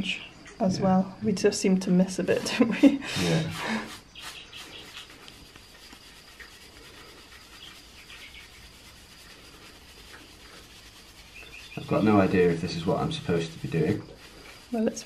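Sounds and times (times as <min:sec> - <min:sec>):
wet brush rubbing cement: 0:02.1 - 0:15.0.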